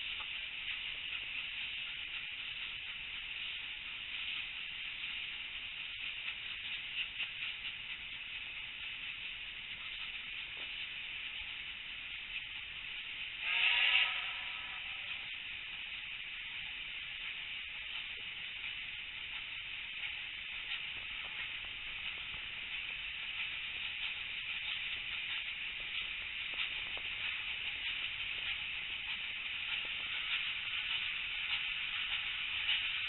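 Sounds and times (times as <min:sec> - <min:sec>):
train rushing hiss: 0:00.0 - 0:33.0.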